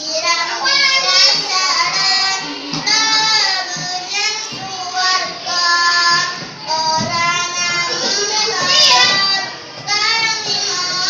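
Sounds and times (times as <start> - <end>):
boy singing unaccompanied: 0.0 - 11.0.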